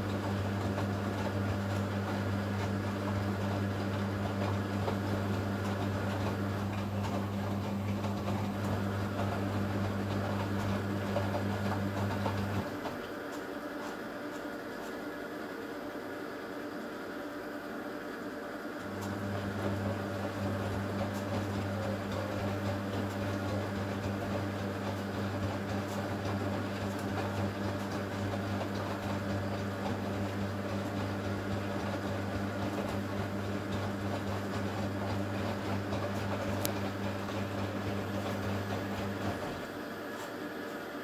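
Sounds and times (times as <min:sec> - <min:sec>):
washing machine motor humming: 0:00.0 - 0:41.0.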